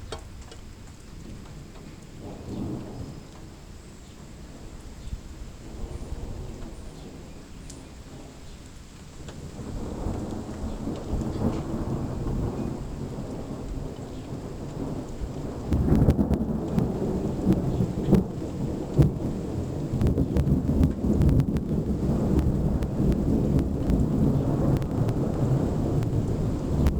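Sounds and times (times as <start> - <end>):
rain falling: 0.0 - 26.9
thunder rumbling: 0.0 - 26.9.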